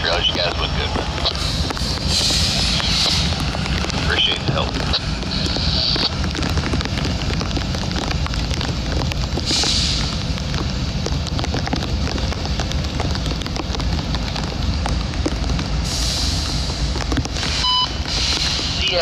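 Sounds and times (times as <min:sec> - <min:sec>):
low rumble: 0:00.0 - 0:19.0
rain drops crackling: 0:00.0 - 0:19.0.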